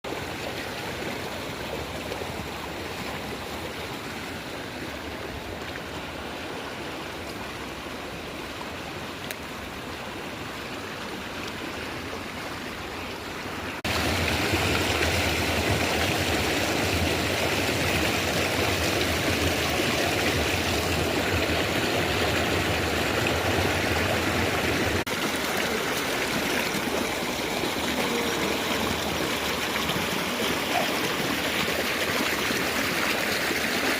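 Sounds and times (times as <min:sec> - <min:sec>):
flowing water rushing: 0:00.1 - 0:33.9.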